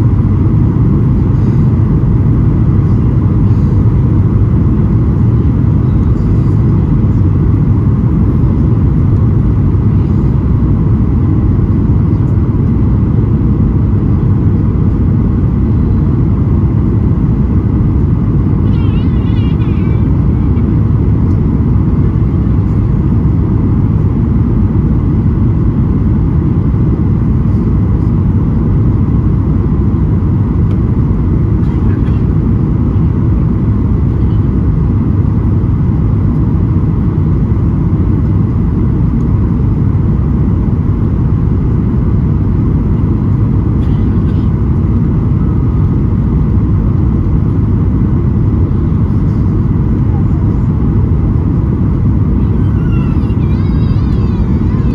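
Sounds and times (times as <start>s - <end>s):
jet engine roar in cabin: 0.0s - 54.9s.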